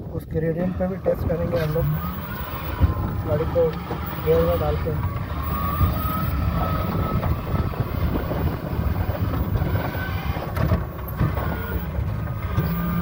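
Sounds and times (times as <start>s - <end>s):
vehicle road rumble: 0.0s - 13.0s.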